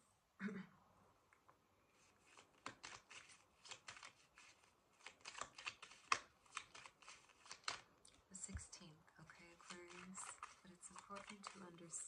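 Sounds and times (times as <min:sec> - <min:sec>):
cards being shuffled by hand: 0:01.9 - 0:12.0.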